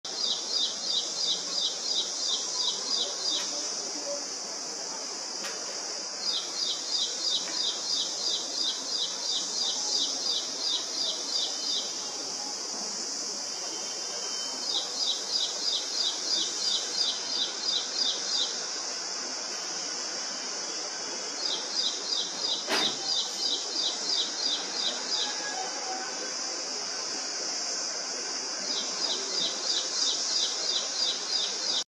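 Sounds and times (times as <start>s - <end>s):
high insect drone: 0.1s - 31.8s.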